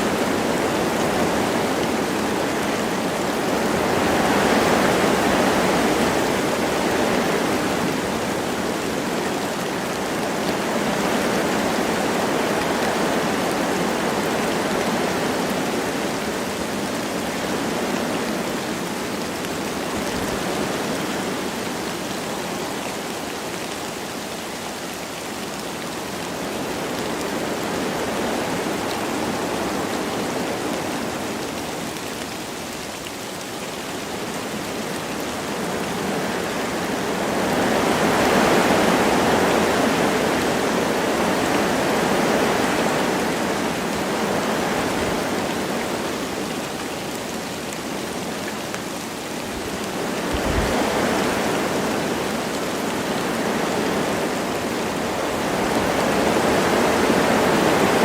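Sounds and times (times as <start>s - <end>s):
light rain falling: 0.0s - 58.0s
wind gusting through trees: 0.0s - 58.0s.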